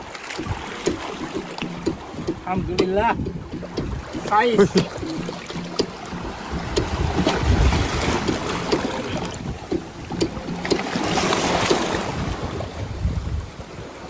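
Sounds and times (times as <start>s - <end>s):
sea water rushing: 0.0s - 14.0s
wind buffeting microphone: 0.0s - 14.0s.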